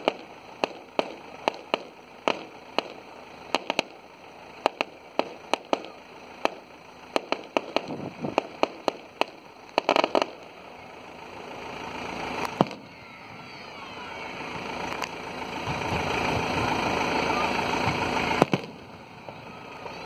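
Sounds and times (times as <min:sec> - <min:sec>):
fireworks bursting: 0:00.0 - 0:20.0
steady background noise: 0:00.0 - 0:20.0.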